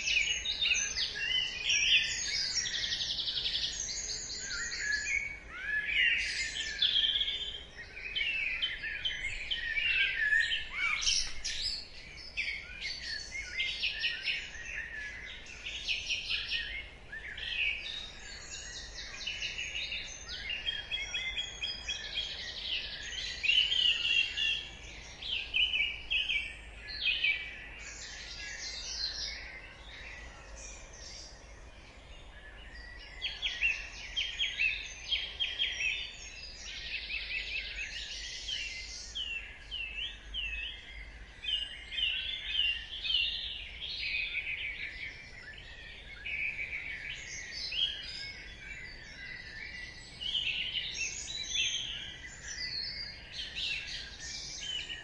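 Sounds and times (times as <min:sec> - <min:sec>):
many songbirds singing: 0:00.0 - 0:55.0.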